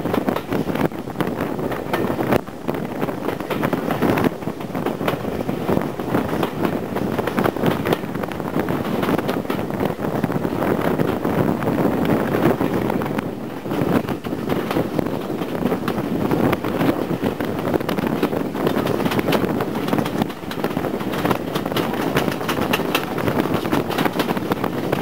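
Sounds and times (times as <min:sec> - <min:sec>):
train running noise: 0:00.0 - 0:25.0
wind buffeting microphone: 0:00.0 - 0:25.0.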